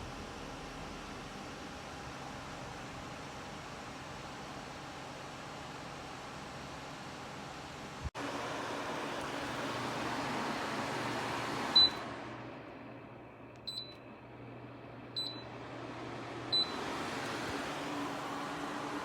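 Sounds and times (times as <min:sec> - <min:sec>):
tower fan blowing: 0:00.0 - 0:19.0.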